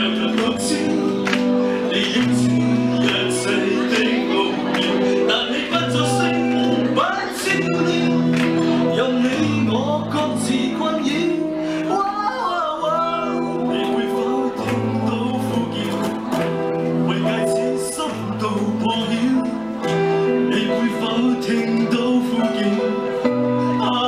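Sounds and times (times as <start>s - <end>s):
live band playing pop song: 0.0s - 24.0s
man singing into microphone: 0.0s - 24.0s.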